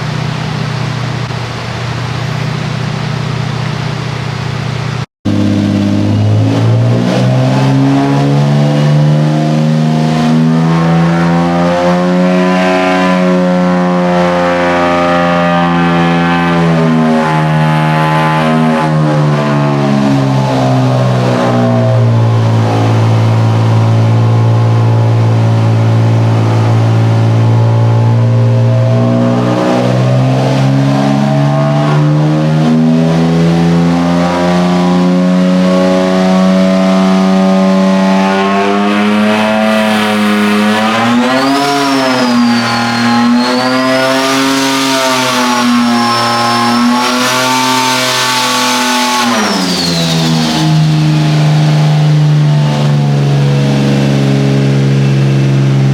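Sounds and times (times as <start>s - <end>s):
car engine revving on dyno: 0.0s - 55.9s
high whine: 0.0s - 55.9s.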